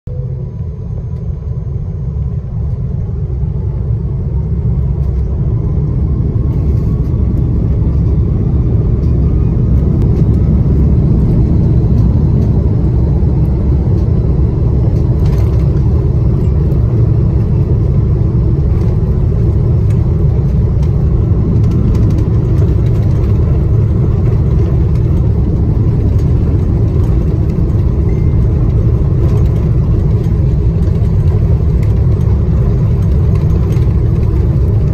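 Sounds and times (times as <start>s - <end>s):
faint rising engine whine: 0.1s - 34.9s
jet engines rumbling: 0.1s - 34.9s.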